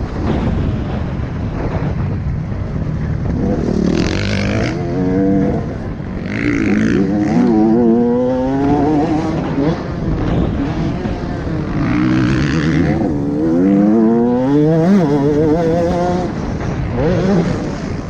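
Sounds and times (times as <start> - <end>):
dirt bike engine revving: 3.3 - 18.0.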